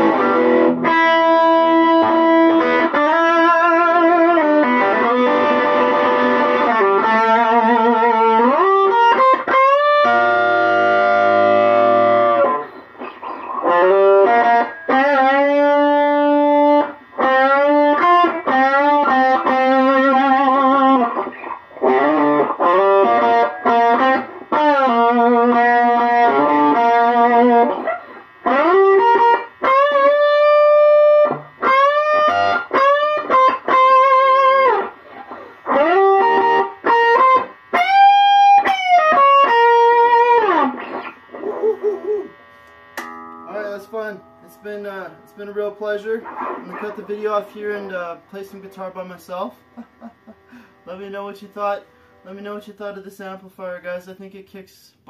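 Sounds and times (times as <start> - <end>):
electric blues guitar lead: 0.0 - 53.0.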